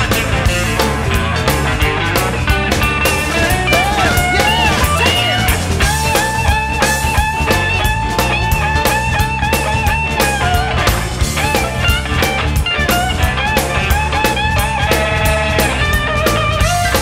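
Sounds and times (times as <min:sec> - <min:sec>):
guitar lead over drum beat: 0:00.0 - 0:17.0.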